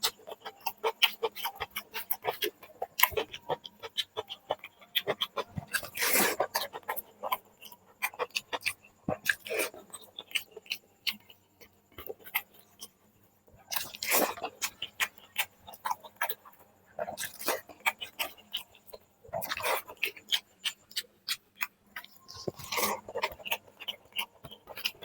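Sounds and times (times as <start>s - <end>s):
crunchy chewing bursts: 0.0s - 25.0s
wet chewing and lip-smacking: 0.0s - 25.0s.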